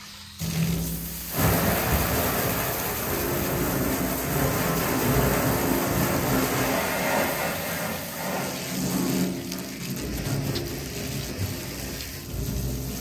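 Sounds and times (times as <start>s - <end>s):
hose spraying water: 0.0s - 13.0s
water splashing on concrete: 0.3s - 13.0s.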